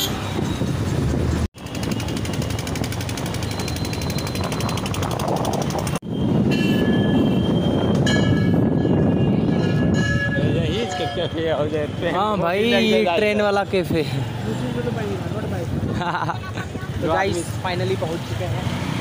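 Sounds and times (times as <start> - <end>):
rumbling vehicle traffic noise: 0.0 - 19.0.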